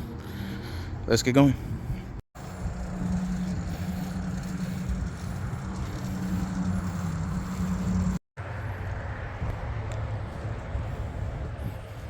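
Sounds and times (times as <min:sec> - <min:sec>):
constant low hum: 0:00.0 - 0:12.0
wind and road noise from bike: 0:00.0 - 0:12.0.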